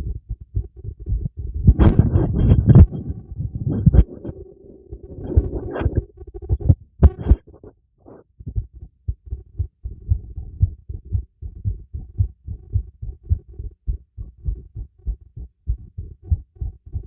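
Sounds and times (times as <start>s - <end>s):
heartbeat through stethoscope: 0.0s - 7.6s, 8.4s - 17.0s.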